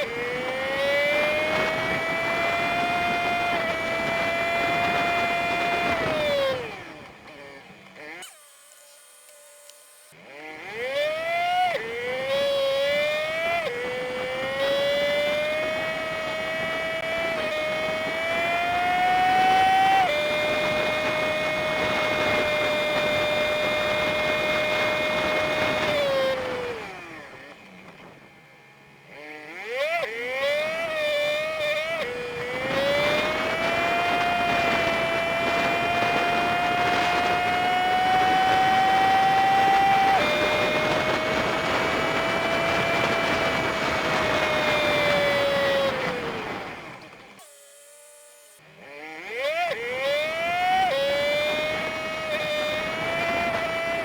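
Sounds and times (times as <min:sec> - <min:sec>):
sped-up motorbike engine whine: 0:00.0 - 0:54.0.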